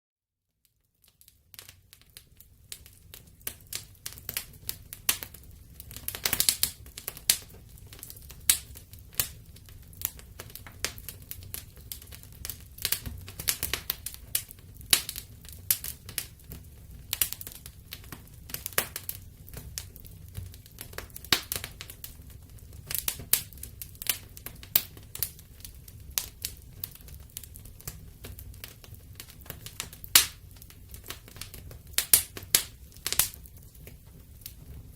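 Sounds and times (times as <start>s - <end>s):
fire crackling and popping: 0.6s - 34.9s
low rumble of flames: 1.3s - 34.9s.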